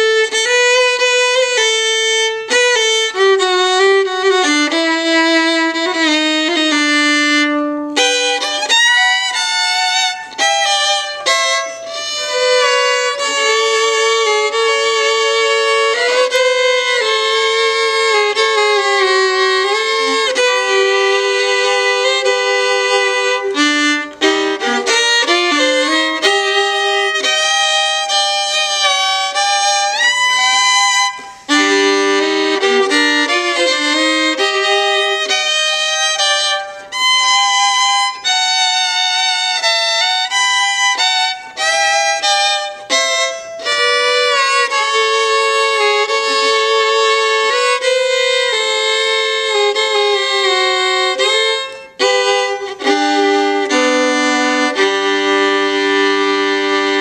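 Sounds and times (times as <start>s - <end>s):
solo fiddle waltz melody: 0.0s - 57.0s.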